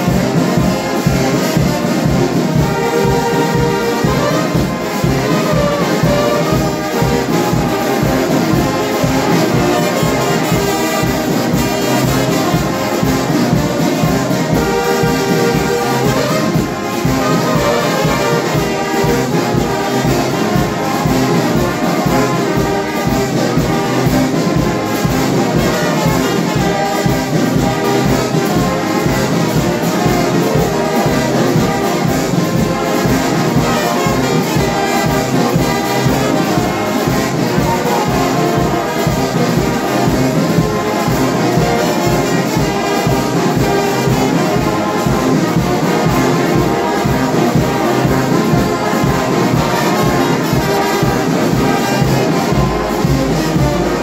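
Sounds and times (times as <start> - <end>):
steady drum beat: 0.0 - 54.0
trumpets and trombones chords: 0.0 - 54.0.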